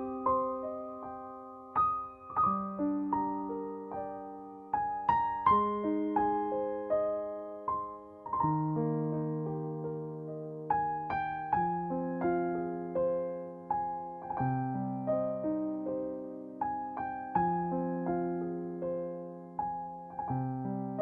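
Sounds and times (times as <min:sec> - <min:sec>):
slow gentle piano melody: 0:00.0 - 0:21.0.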